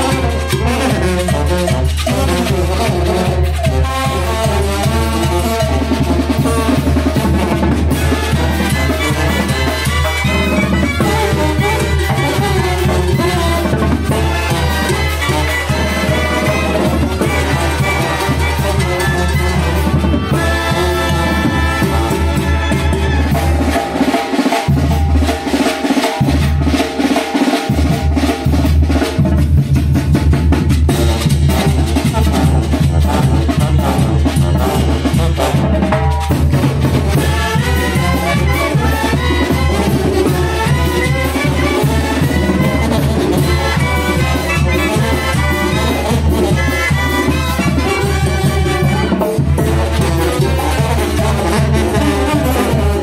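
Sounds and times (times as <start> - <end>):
brass band playing: 0.0 - 53.0
snare and bass drum beat: 0.0 - 53.0.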